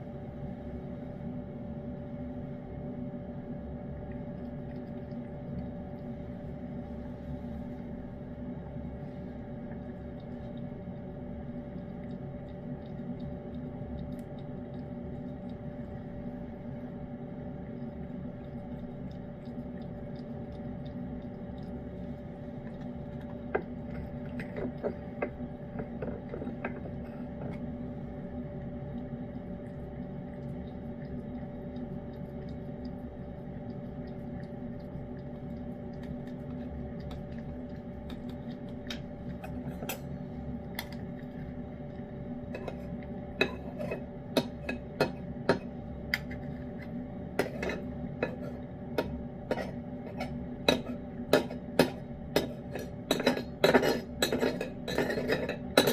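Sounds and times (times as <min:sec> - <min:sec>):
electrical hum: 0:00.0 - 0:55.9
cat licking and chewing: 0:00.2 - 0:55.8.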